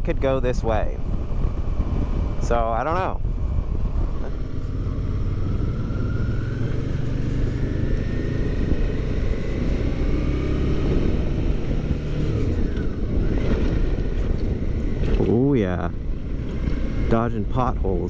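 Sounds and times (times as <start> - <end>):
motorcycle engine running: 0.7 - 18.0.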